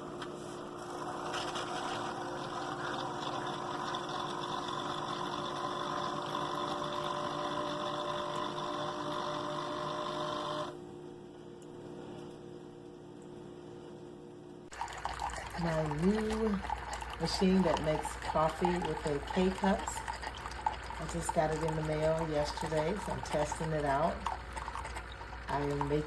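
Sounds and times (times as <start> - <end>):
coffee maker pump humming: 0.0 - 26.0
faint hum: 0.0 - 26.0.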